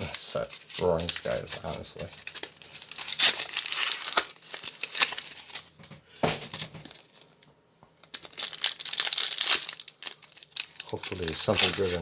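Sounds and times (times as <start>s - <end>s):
foil wrapper crinkling and tearing: 0.0s - 5.8s, 6.5s - 7.4s, 8.0s - 12.0s.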